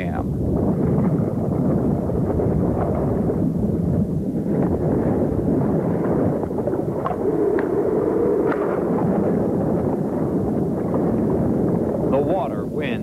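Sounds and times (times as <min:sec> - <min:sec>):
underwater turbulent water rumble: 0:00.0 - 0:13.0.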